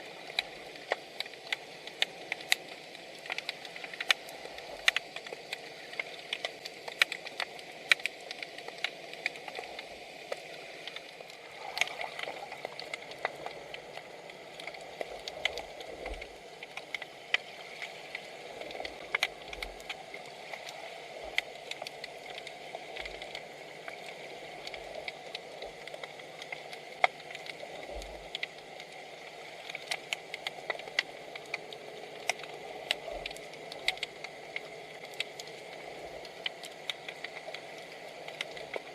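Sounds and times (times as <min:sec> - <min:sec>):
sharp clicks and crackles: 0:00.0 - 0:38.9
underwater hiss: 0:00.0 - 0:38.9.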